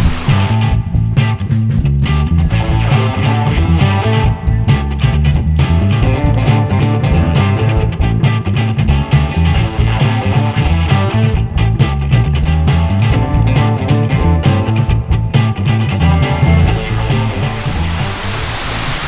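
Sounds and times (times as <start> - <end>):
guitar-led rock music: 0.0 - 18.3.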